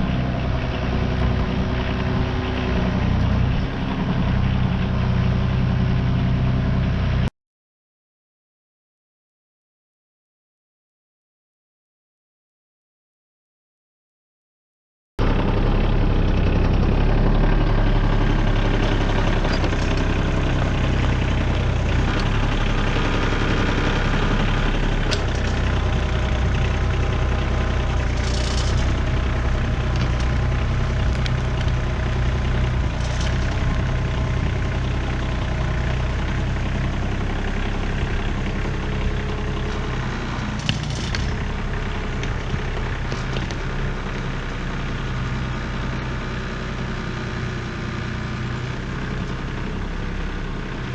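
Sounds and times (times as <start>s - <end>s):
tractor diesel engine running: 0.0s - 7.3s, 15.2s - 50.9s.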